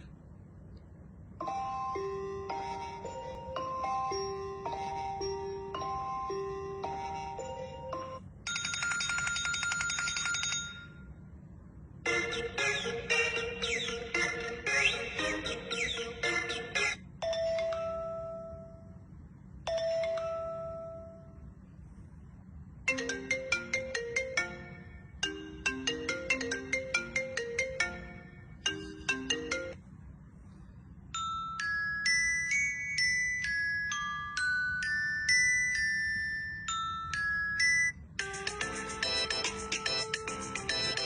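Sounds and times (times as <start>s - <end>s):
phone ringtone melodies: 1.4s - 11.2s, 12.1s - 19.0s, 19.6s - 21.5s, 22.8s - 29.8s, 31.2s - 41.0s.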